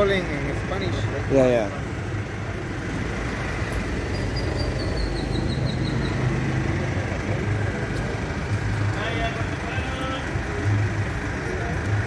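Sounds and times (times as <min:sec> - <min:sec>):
low engine-like hum: 0:00.0 - 0:12.0
street noise: 0:00.0 - 0:12.0.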